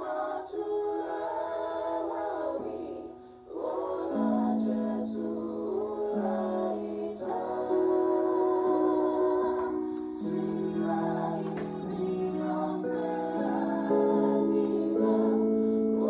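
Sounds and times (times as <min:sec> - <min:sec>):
a cappella group singing harmony: 0:00.0 - 0:16.0.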